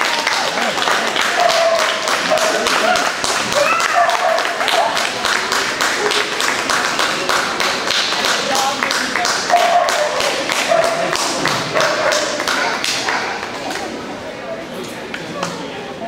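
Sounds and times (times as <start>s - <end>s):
spectators clapping: 0.0s - 14.0s
voices: 0.0s - 16.0s.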